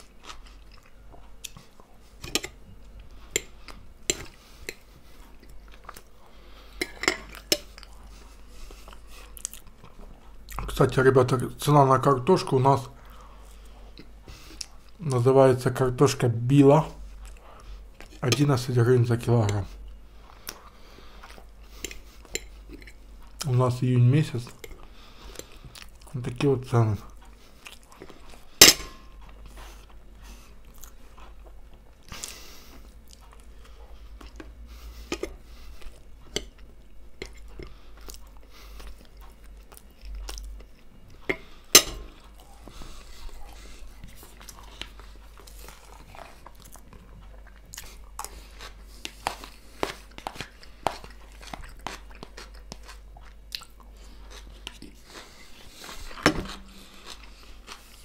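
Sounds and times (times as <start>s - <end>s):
chewing and crunching: 0.0s - 10.8s, 17.0s - 58.0s.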